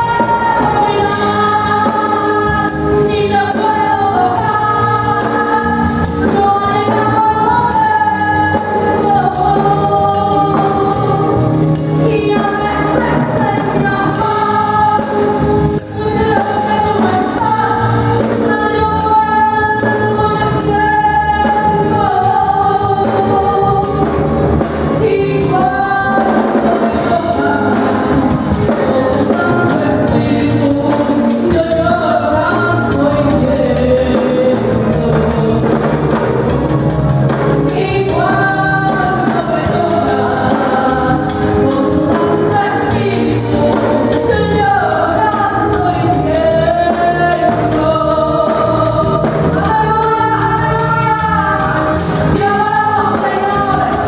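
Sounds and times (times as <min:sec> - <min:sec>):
musical accompaniment: 0:00.0 - 0:54.0
woman singing into a microphone: 0:00.0 - 0:54.0.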